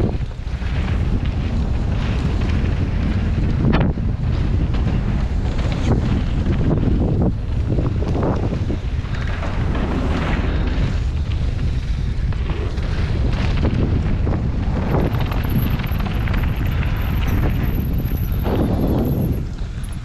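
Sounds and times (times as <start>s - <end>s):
bike rattling and knocking: 0.0s - 20.0s
wind buffeting microphone: 0.0s - 20.0s.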